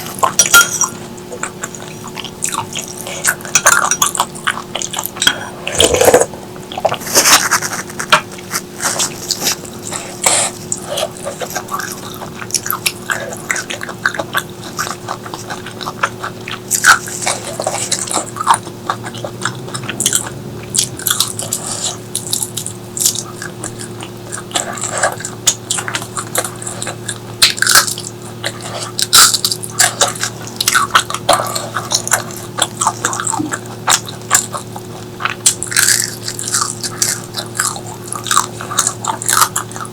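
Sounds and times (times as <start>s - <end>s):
chewing and biting: 0.0s - 39.9s
faint steady hum: 0.0s - 39.9s
wet crunching: 0.0s - 39.9s.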